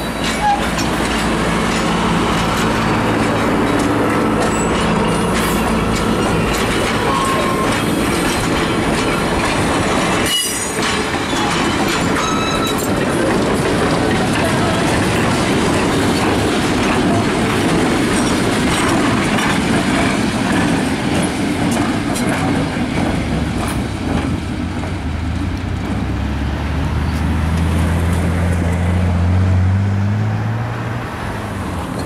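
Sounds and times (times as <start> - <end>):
train wheels clacking on rail joints: 0.0 - 26.3
diesel locomotive engine drone: 0.0 - 32.0.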